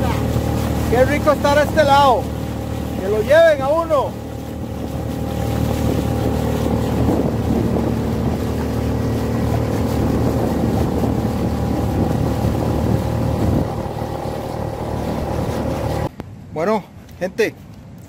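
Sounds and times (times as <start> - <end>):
outboard motor running: 0.0 - 16.1
wind buffeting microphone: 0.0 - 16.1.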